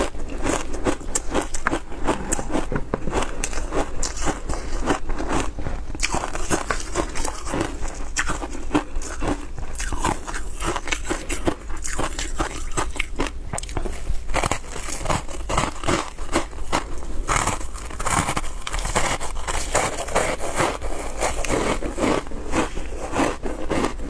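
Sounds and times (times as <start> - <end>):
crunching shaved ice: 0.0 - 24.0.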